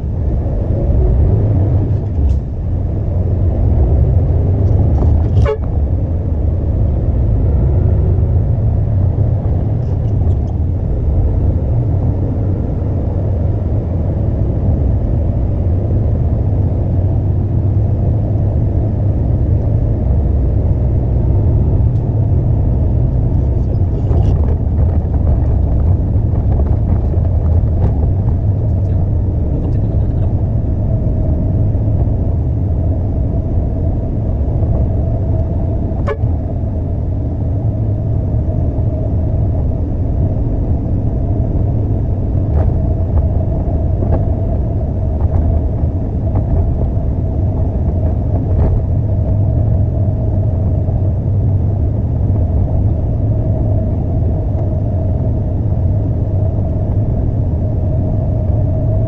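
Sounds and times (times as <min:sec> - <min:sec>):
diesel engine rumbling: 0:00.0 - 0:59.0
steady whine: 0:00.0 - 0:59.0.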